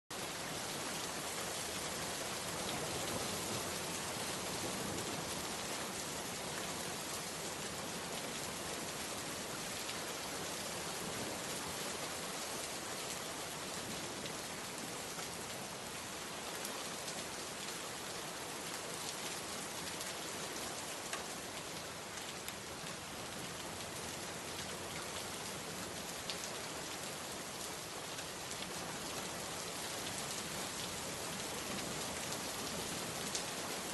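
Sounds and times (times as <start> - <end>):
steady rain pattering: 0.1 - 33.9.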